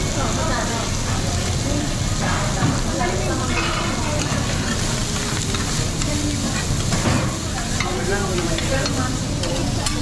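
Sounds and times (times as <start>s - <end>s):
faint murmuring voices: 0.0s - 10.0s
food sizzling on griddle: 0.0s - 10.0s.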